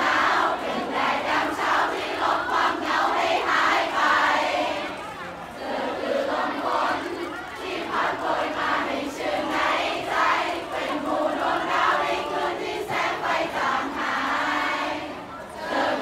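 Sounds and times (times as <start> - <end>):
crowd calling out and cheering: 0.0 - 16.0.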